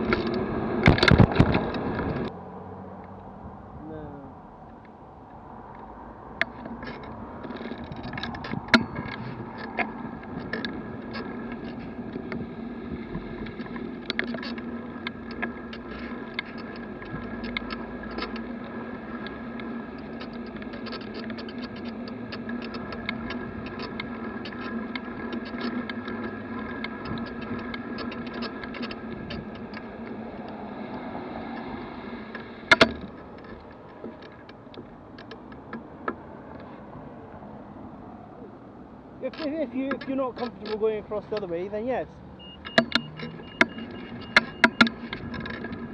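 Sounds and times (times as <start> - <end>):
small rattling clicks: 0.0 - 2.3, 5.7 - 36.8, 39.2 - 45.9
bicycle road rumble: 0.0 - 45.9.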